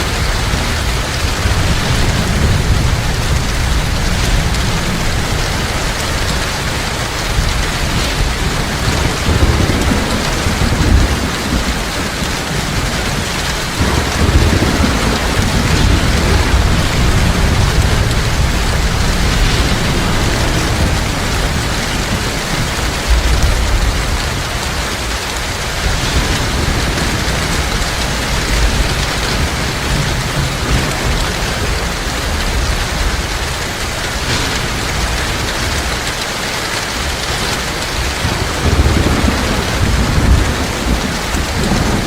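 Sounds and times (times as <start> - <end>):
heavy rain falling: 0.0 - 42.0
thunder rumbling: 0.0 - 42.0.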